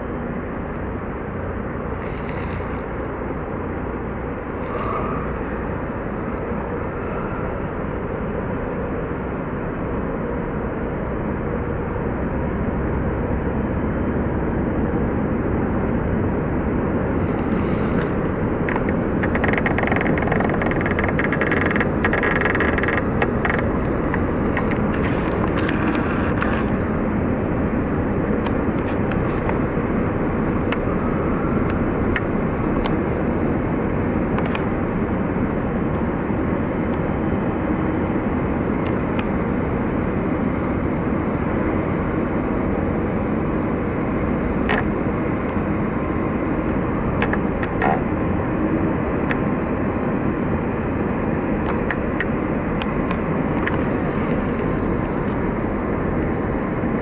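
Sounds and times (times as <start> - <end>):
ship engines rumbling: 0.0 - 57.0.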